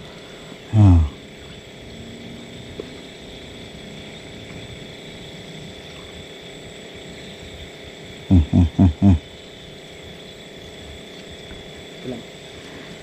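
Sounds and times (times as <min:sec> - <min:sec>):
faint high-pitched whine: 0:00.0 - 0:13.0
low rumbling background noise: 0:00.0 - 0:13.0.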